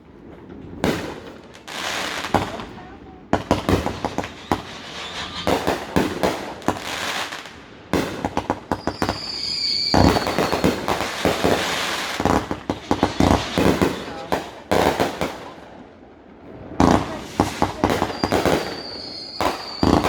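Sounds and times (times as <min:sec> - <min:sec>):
fireworks bangs and crackles: 0:00.0 - 0:20.0
whistling firework: 0:00.8 - 0:15.6, 0:16.6 - 0:20.0.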